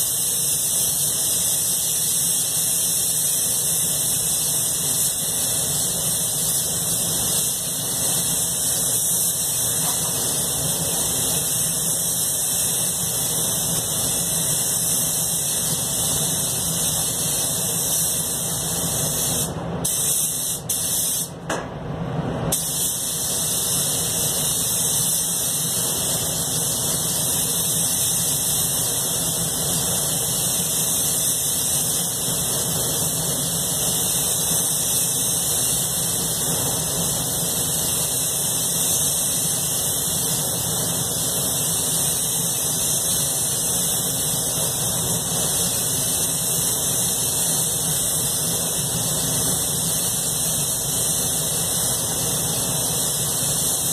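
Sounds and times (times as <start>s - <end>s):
spray gun hissing: 0.0s - 21.3s, 22.5s - 53.9s.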